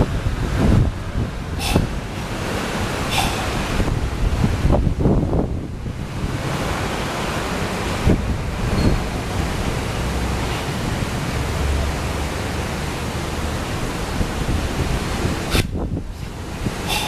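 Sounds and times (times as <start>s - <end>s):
wind on microphone: 0.0s - 11.4s, 13.6s - 17.0s
low rumbling: 0.0s - 17.0s.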